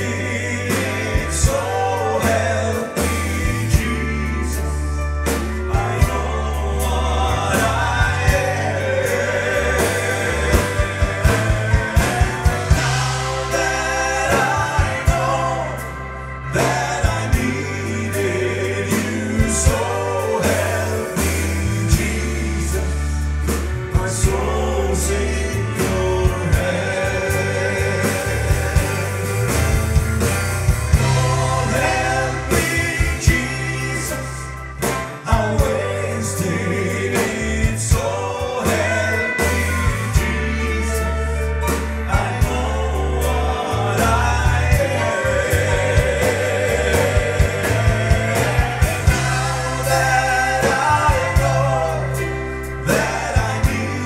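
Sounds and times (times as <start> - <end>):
gospel song with band: 0.0 - 54.0.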